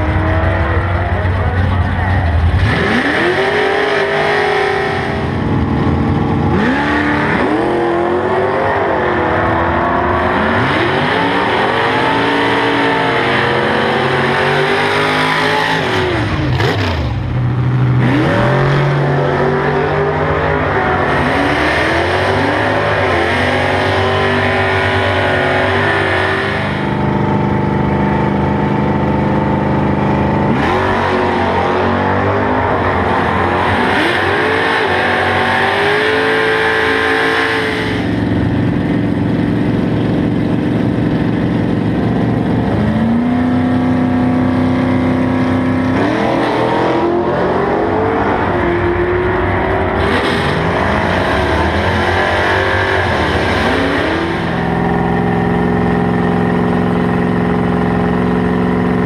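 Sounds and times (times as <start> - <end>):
drag racing engines revving: 0.0 - 59.0.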